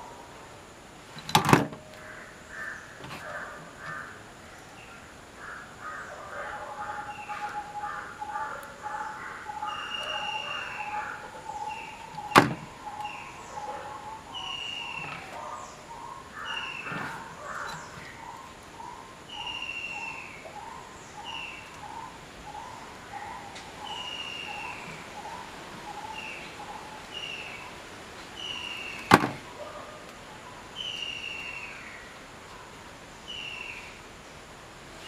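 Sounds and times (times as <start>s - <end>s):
birds calling harshly: 0.0s - 34.2s.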